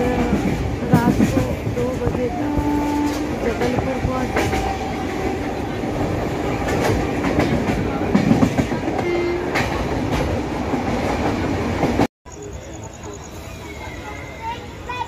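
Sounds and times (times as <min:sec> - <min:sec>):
rail joint clacks: 0:00.0 - 0:12.1
train wheels rumbling on rails: 0:00.0 - 0:12.1.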